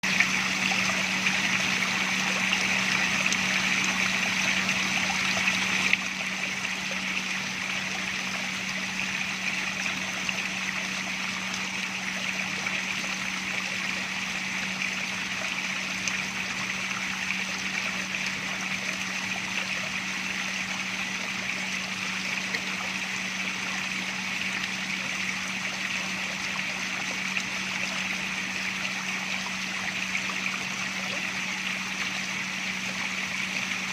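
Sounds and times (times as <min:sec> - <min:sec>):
water trickling and splashing: 0:00.0 - 0:33.9.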